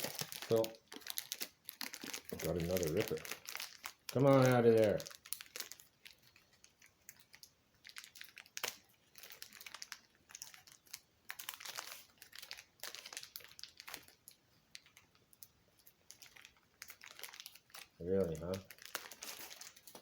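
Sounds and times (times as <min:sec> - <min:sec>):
packaging crinkling and rustling: 0:00.0 - 0:20.0
sharp packaging crackle: 0:00.0 - 0:20.0.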